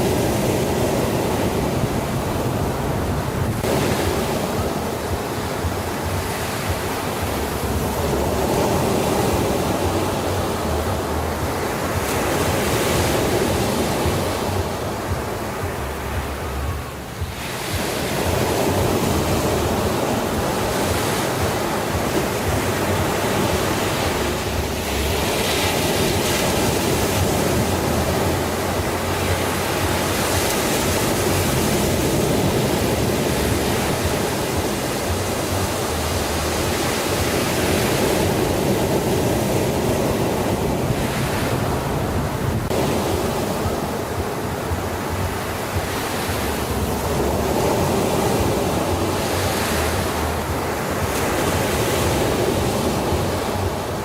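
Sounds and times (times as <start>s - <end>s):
low wind rumble: 0.0s - 54.0s
surf washing onto shore: 0.0s - 54.0s.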